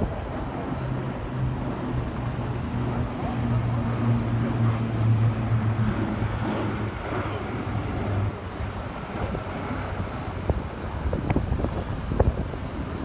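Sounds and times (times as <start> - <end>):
propeller planes flying past: 0.0 - 13.0.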